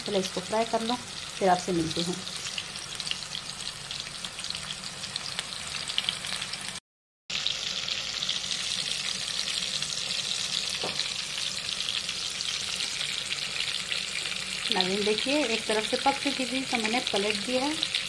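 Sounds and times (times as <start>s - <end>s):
fish frying in hot oil: 0.0s - 18.0s.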